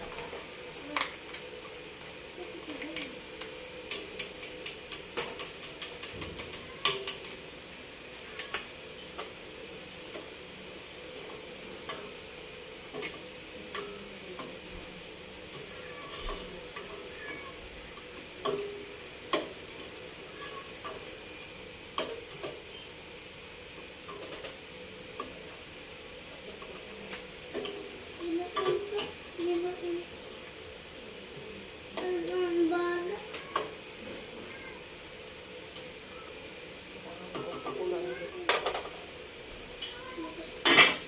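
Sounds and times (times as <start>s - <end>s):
faint hiss from pot: 0.0s - 41.0s.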